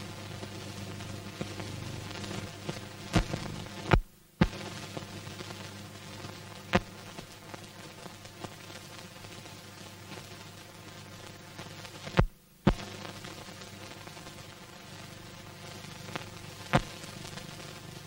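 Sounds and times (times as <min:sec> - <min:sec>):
film soundtrack hum and hiss: 0:00.0 - 0:18.0.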